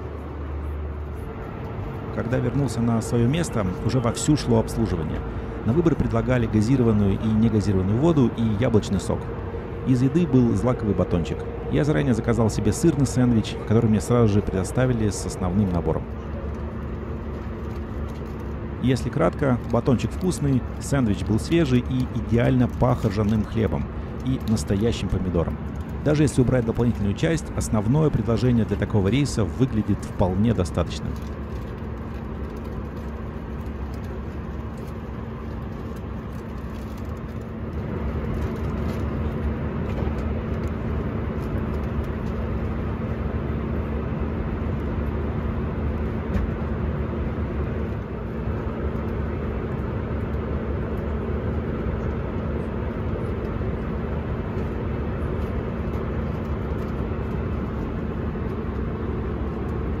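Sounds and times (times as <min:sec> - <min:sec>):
airliner cabin airflow and engines: 0:00.0 - 1:00.0
low steady hum: 0:00.0 - 1:00.0.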